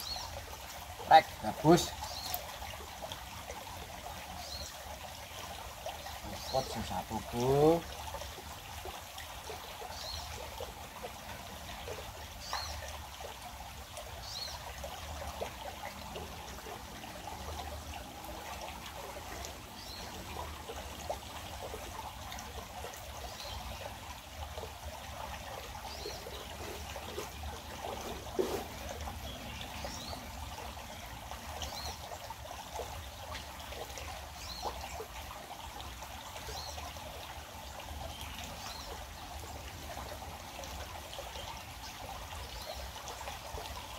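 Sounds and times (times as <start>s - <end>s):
stream trickling: 0.0s - 43.9s.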